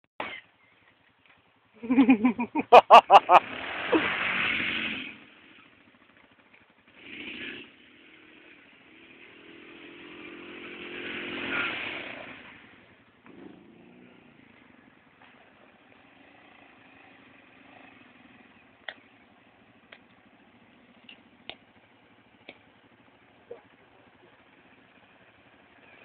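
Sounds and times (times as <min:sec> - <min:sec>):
quad engine revving: 0:03.0 - 0:05.8, 0:06.9 - 0:26.0.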